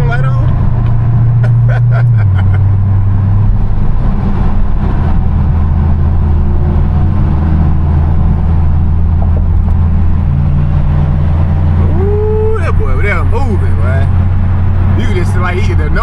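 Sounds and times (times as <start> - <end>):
car engine and exhaust drone: 0.0 - 16.0.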